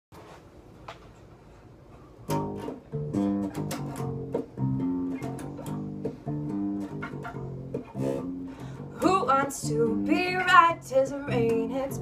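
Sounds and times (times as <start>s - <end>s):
guitar strumming chords: 2.3s - 12.0s.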